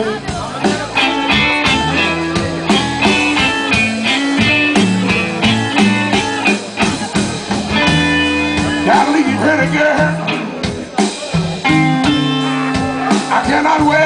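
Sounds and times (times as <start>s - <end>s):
blues band playing: 0.0s - 14.0s
electric guitar: 0.0s - 14.0s.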